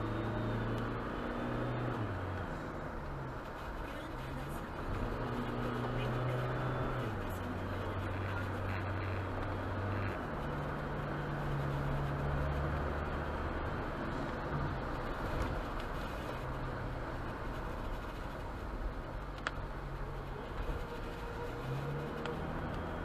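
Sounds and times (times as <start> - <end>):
low engine hum: 0.0 - 23.0
tyre noise on wet road: 0.0 - 23.0.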